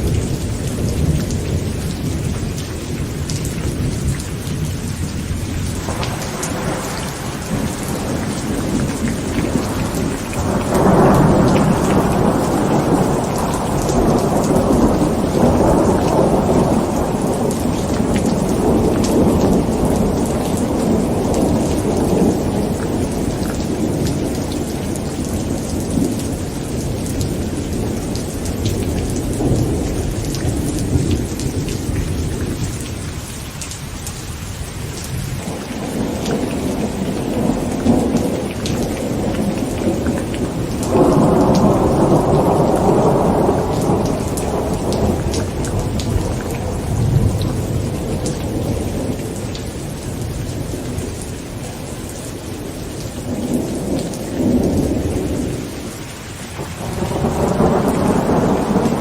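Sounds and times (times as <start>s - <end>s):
thunder rumble: 0.0s - 33.2s, 35.0s - 59.0s
heavy rain drumming on a tent: 0.0s - 59.0s.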